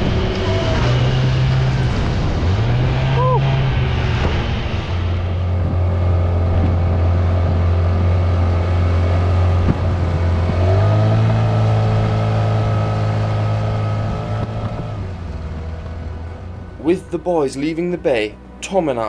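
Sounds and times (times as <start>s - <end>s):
water rushing past hull: 0.0s - 16.8s
outboard motor running: 0.0s - 19.0s.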